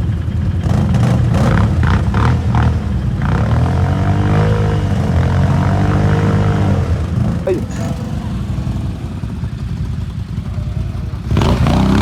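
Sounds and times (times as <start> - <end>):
atv engine running and revving: 0.0 - 12.0.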